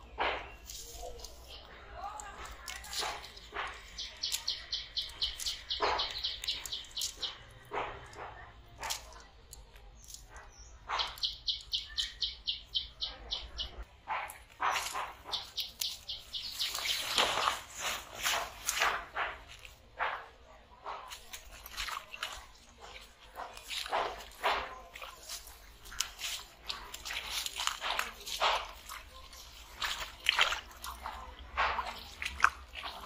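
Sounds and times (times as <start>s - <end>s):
rustling crunches: 0.0s - 12.7s, 13.6s - 33.0s
feet splashing in shallow water: 0.0s - 33.0s.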